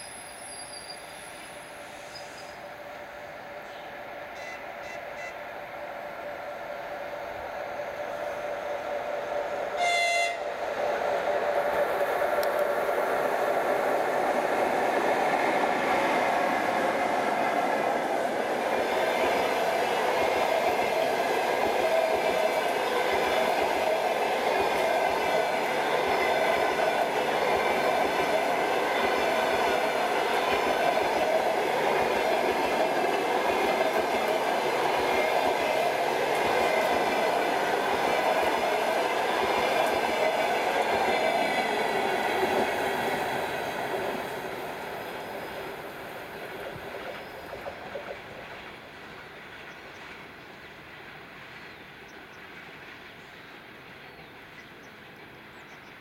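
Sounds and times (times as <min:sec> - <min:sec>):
train wheels rushing on rails: 0:00.0 - 0:55.8.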